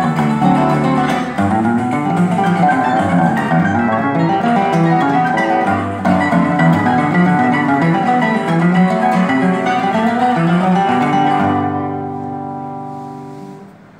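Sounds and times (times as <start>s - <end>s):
acoustic guitar fingerstyle: 0.0s - 13.9s.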